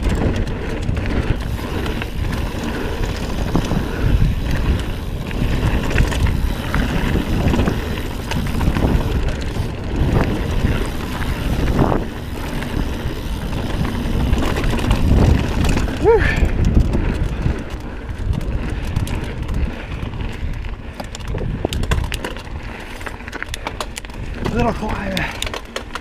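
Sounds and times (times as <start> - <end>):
bike clicks and rattles: 0.0 - 26.0
bike tyres rumbling on dirt: 0.0 - 26.0
wind buffeting microphone: 0.0 - 26.0.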